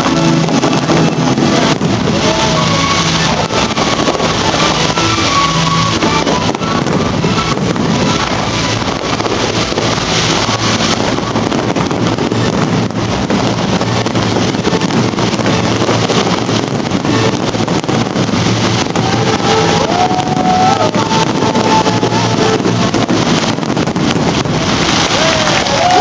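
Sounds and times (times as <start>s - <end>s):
fireworks bangs and crackling: 0.0s - 26.0s
wind on microphone: 0.0s - 26.0s.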